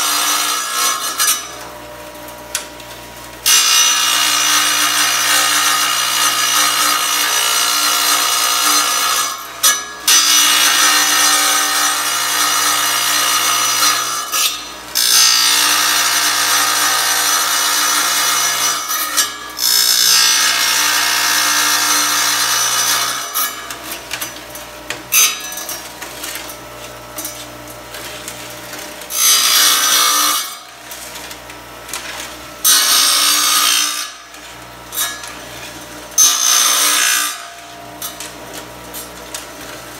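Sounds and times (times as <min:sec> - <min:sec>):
tile saw grinding through tile: 0:00.0 - 0:01.7, 0:03.4 - 0:38.3.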